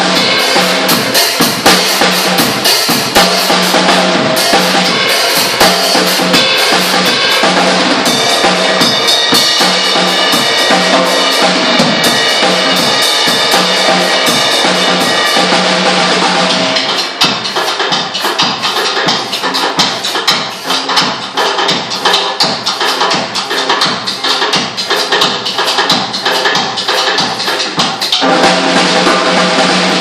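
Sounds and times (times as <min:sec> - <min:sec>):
drum kit hits: 0:00.0 - 0:30.0
music: 0:00.0 - 0:30.0.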